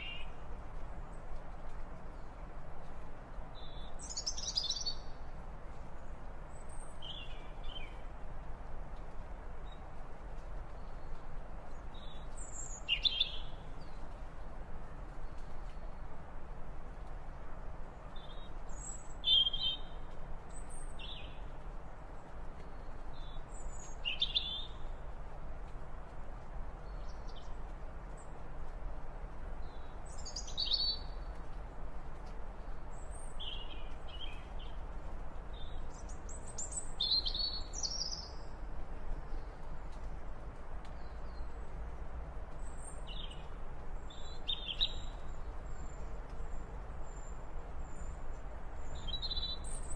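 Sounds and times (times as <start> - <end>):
low background hiss: 0.0 - 49.9.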